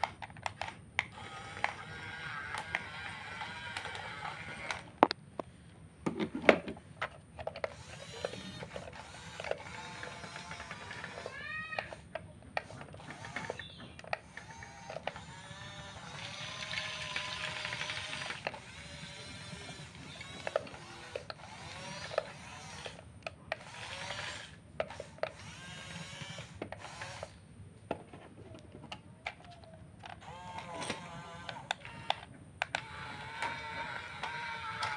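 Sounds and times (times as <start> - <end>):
small electric motors whining: 0.0 - 5.2, 6.7 - 27.4, 28.0 - 34.9.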